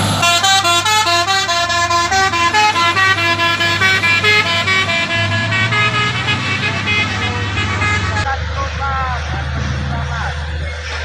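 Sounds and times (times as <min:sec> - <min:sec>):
melodic truck horn: 0:00.0 - 0:10.9
low engine hum: 0:00.0 - 0:11.0.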